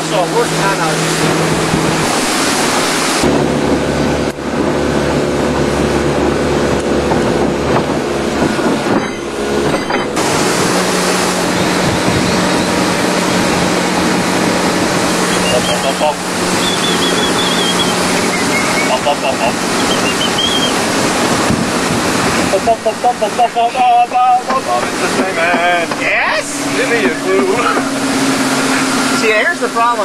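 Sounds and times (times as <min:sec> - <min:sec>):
motorboat engine running: 0:00.0 - 0:30.0
wind and water rushing: 0:00.0 - 0:30.0.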